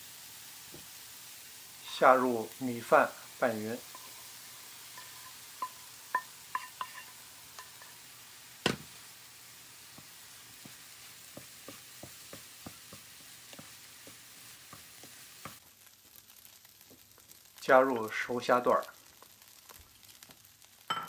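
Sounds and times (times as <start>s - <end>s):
faint sizzling: 0.0s - 21.0s
spatula stirring rice in a pan: 0.2s - 21.0s.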